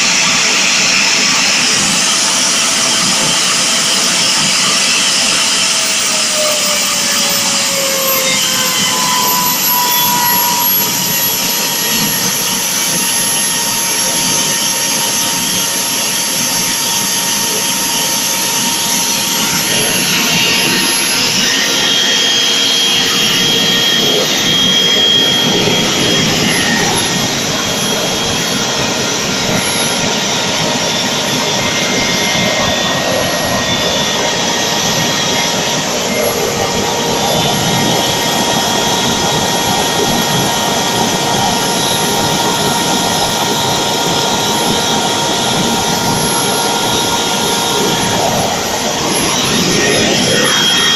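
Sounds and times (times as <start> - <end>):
model jet engine roaring with whine: 0.0 - 50.9.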